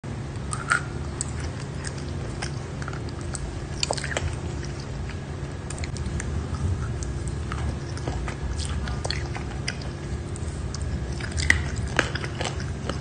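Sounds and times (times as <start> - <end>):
steady low hum: 0.0 - 13.0
person chewing crunchy powder: 0.4 - 13.0.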